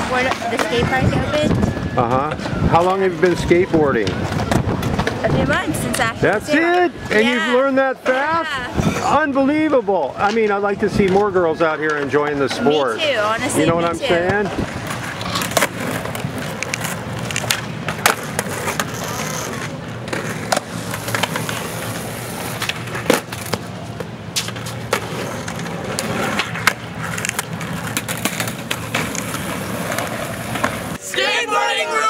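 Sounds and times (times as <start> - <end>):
skateboards clacking on pavement: 0.0 - 8.4, 10.2 - 31.2
skateboard wheels rolling on concrete: 0.0 - 32.0.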